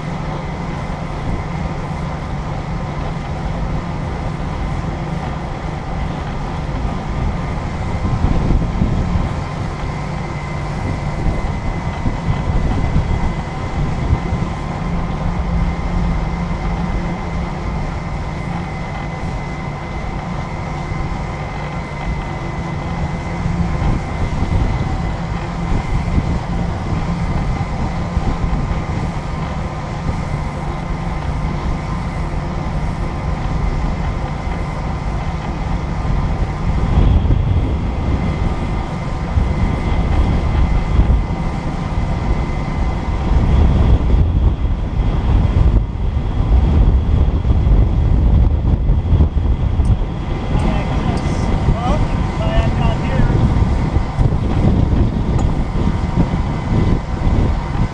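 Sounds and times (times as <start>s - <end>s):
engine drone with low rumble: 0.0s - 57.9s.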